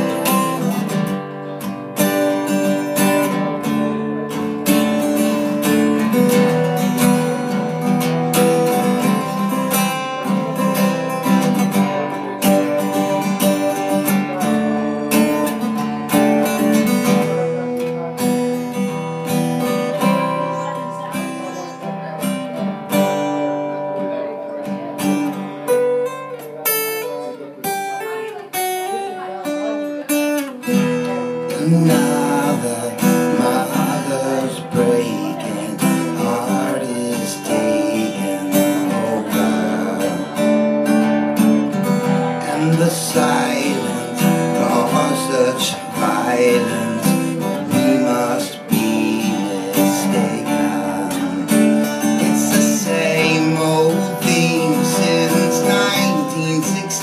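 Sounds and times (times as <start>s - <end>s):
acoustic guitar: 0.0s - 57.0s.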